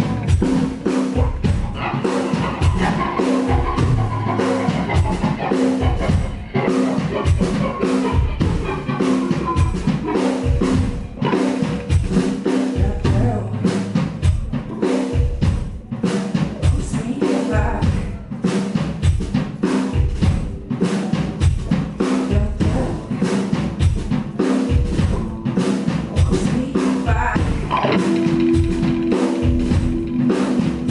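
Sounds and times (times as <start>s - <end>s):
drum kit beat: 0.0s - 30.9s
rock band playing: 0.0s - 30.9s.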